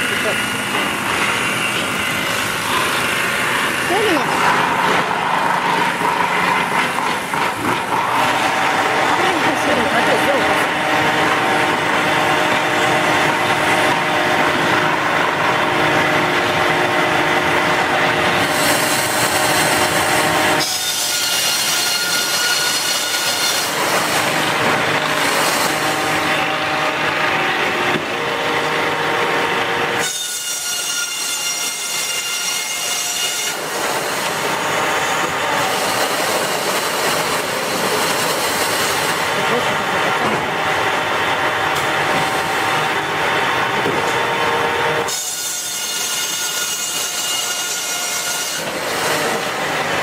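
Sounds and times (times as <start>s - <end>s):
power saw cutting wood: 0.0s - 50.0s.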